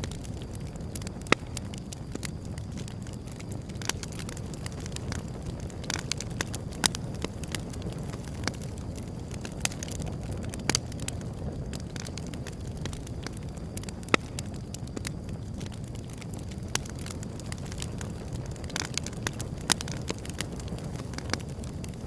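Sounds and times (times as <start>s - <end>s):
loud fire pops: 0.0s - 22.0s
low fire rumble: 0.0s - 22.0s
wood fire crackling: 0.0s - 22.0s.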